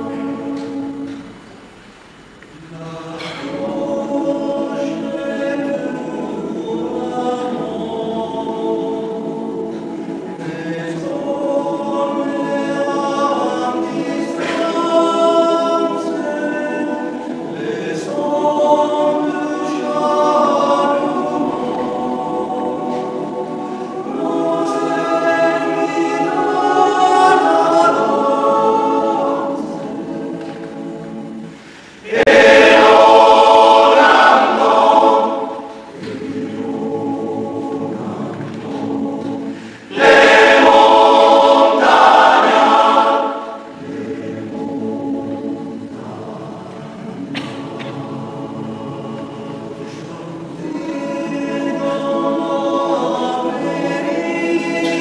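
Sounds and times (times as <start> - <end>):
men's choir singing a cappella: 0.0 - 55.0.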